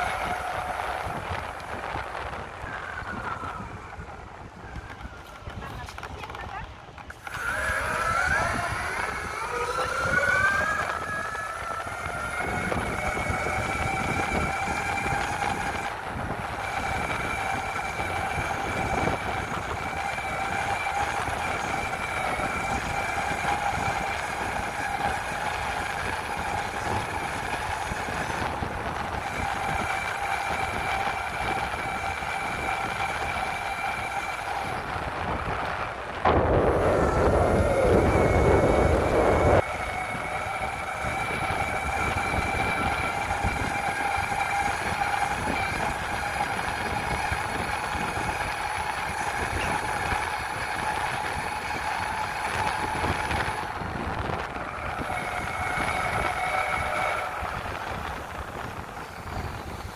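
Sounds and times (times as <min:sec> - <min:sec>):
electric motors whining: 0:00.0 - 0:59.9
steady rough noise: 0:00.0 - 0:59.9.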